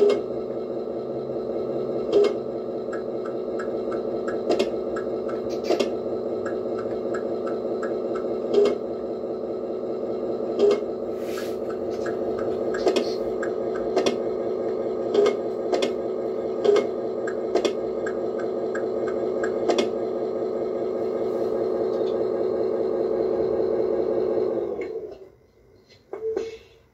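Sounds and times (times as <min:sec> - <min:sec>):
diesel engine idle from small speaker: 0:00.0 - 0:25.2
engine sound winding down: 0:00.0 - 0:25.6.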